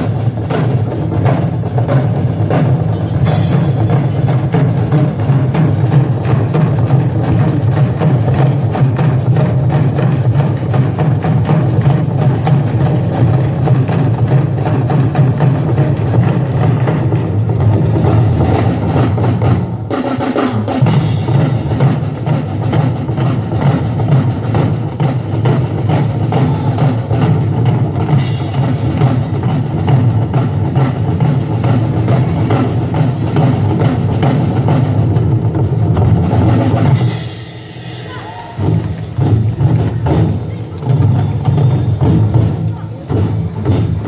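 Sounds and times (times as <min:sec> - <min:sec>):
drum kit beat: 0:00.0 - 0:44.0.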